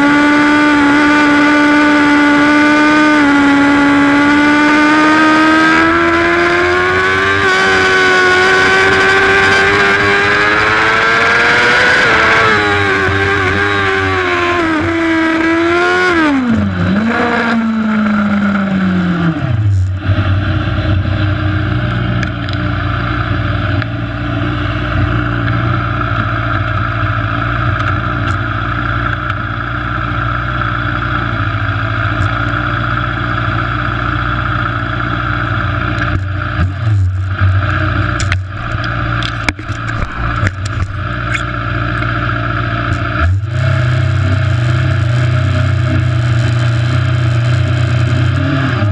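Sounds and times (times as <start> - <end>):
motorcycle engine: 0.0 - 48.9
wind and road noise: 0.0 - 48.9.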